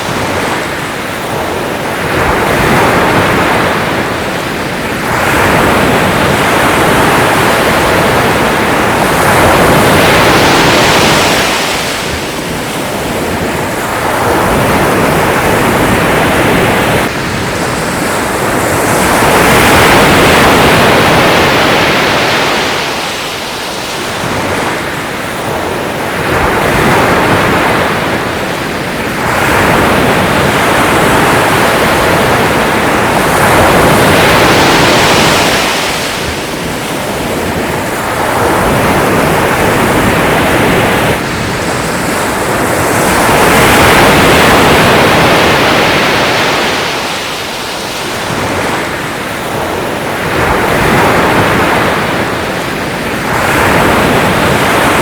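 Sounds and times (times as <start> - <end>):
waves breaking: 0.0 - 55.0.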